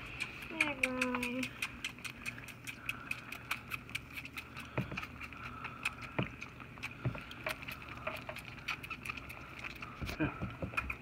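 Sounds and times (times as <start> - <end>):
goats suckling bottles: 0.0 - 11.0.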